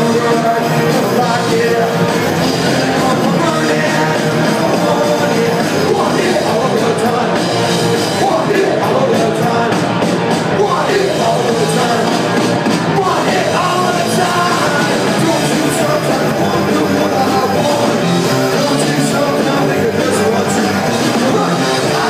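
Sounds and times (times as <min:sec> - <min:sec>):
punk rock band playing live: 0:00.0 - 0:22.0
singer shouting vocals: 0:00.0 - 0:22.0.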